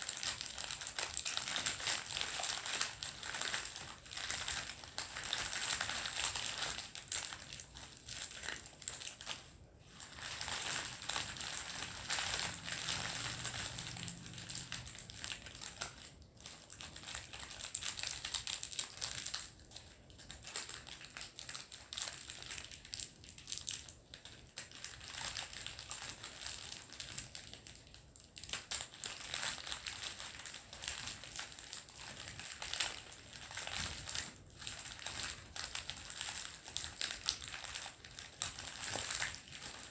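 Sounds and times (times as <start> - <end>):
candy wrapper crinkling: 0.0 - 39.9.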